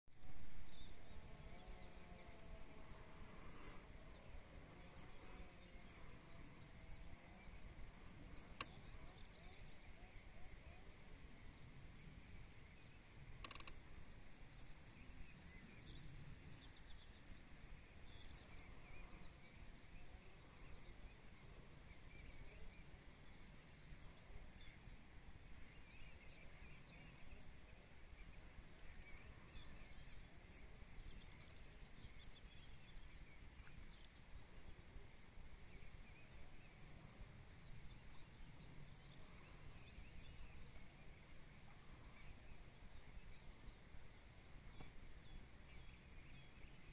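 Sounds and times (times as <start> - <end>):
low marsh rumble: 0.2 - 46.9.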